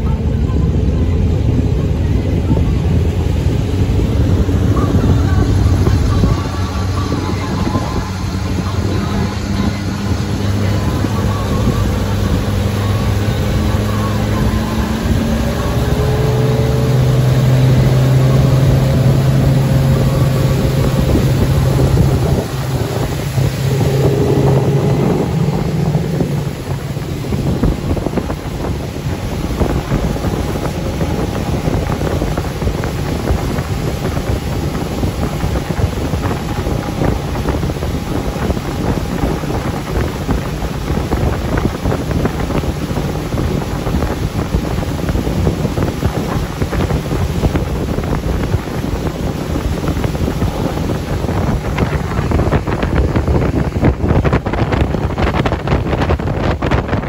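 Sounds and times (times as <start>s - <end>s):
motorboat engine humming: 0.0s - 57.0s
water rushing past hull: 0.0s - 57.0s
wind buffeting microphone: 0.0s - 57.0s.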